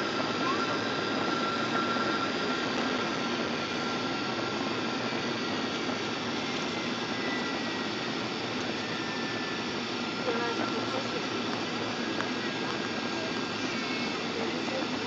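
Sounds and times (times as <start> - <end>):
faint high whine: 0.0 - 15.0
jet engine and airflow rush: 0.0 - 15.0.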